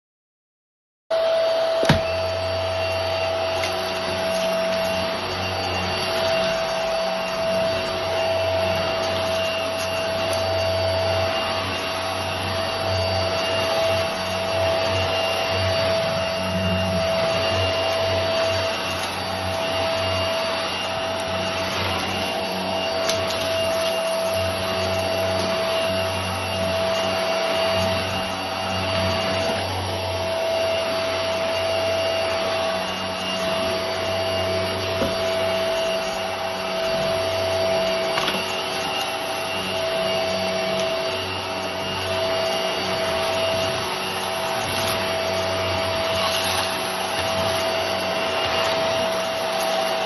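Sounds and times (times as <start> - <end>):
stick vacuum whining: 1.1 - 50.0.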